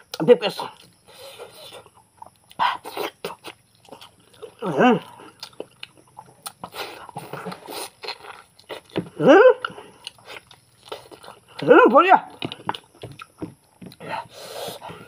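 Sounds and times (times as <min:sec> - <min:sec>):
man chewing meat: 0:00.0 - 0:11.7, 0:12.3 - 0:15.0.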